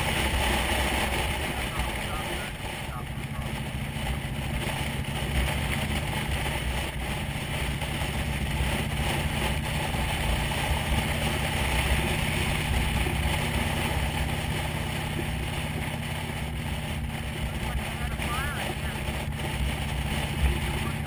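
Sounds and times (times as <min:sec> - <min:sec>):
motorcycle engine cruising: 0:00.0 - 0:21.0
wind and road noise: 0:00.0 - 0:21.0.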